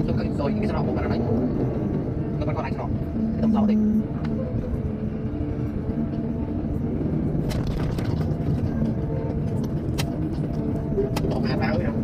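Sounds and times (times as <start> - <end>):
heavy machinery engine rumbling: 0.0 - 12.0.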